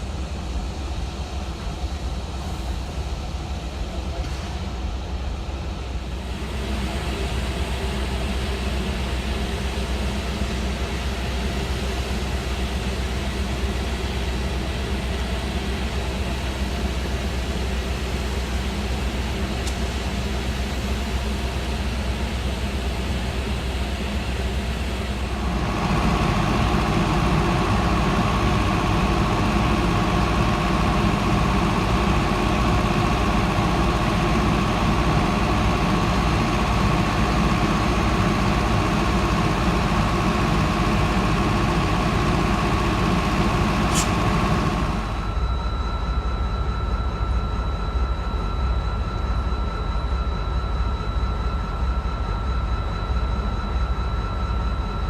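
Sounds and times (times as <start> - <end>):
diesel locomotive low rumble: 0.0 - 55.0
engine drone with hum: 0.0 - 55.0.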